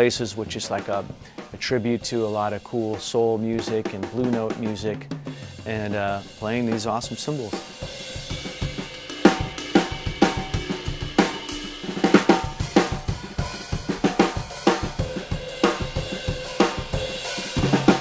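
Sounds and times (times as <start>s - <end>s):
drum kit groove: 0.0s - 18.0s.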